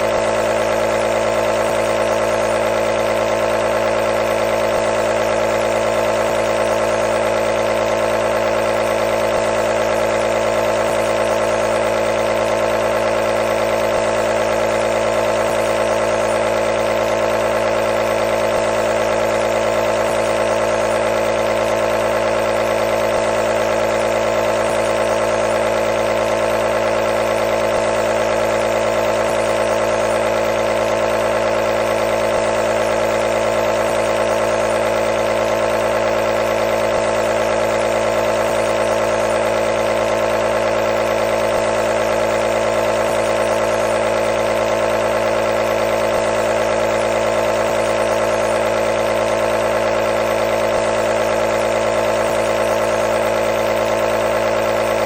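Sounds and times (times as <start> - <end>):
compressor nebulizer buzzing: 0.0 - 55.0.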